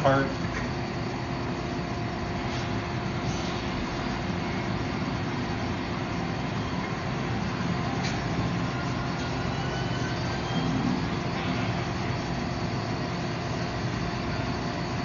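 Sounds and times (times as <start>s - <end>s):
shop machinery droning: 0.0s - 15.0s.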